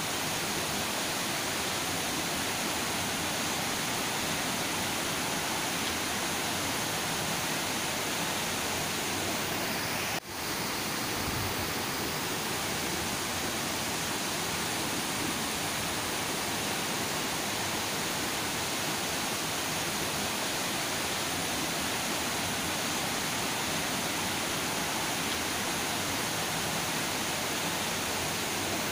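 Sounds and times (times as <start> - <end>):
river rushing over rocks: 0.0 - 28.9.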